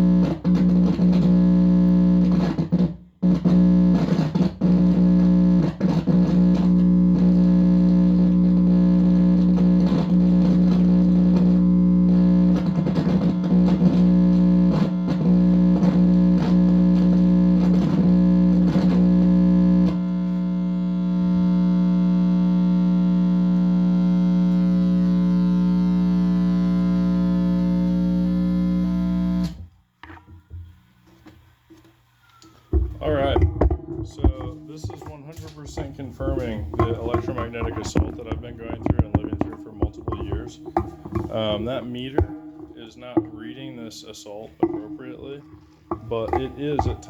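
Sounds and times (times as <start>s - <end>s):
crackles and pops: 0.0s - 29.7s, 31.0s - 47.0s
electrical buzz through guitar amplifier: 0.0s - 47.0s.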